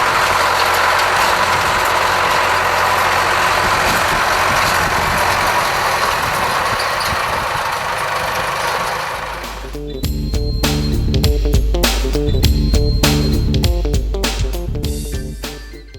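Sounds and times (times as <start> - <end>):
baler machinery working: 0.0 - 13.8
tractor diesel engine running: 0.0 - 15.8.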